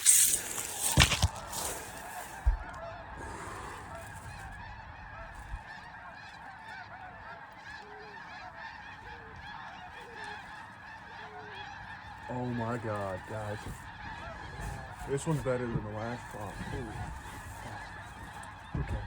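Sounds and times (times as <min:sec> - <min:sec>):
geese honking: 0:00.0 - 0:19.0.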